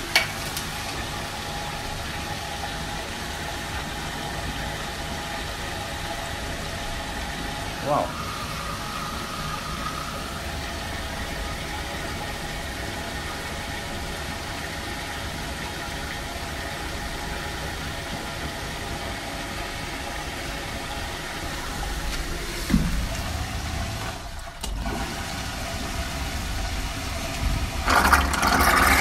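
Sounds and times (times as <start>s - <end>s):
pump motor hum: 0.0s - 29.0s
water rushing: 0.0s - 29.0s.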